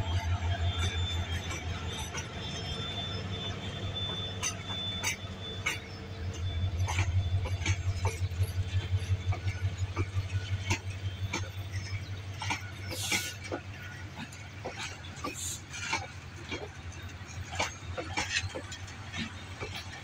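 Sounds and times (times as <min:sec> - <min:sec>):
train rumble: 0:00.0 - 0:20.0
train wheels clattering over rail joints: 0:00.1 - 0:20.0.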